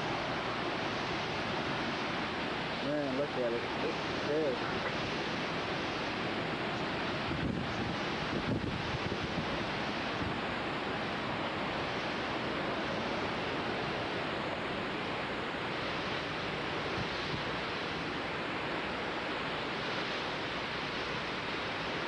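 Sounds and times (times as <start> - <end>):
strong wind roaring: 0.0 - 22.0.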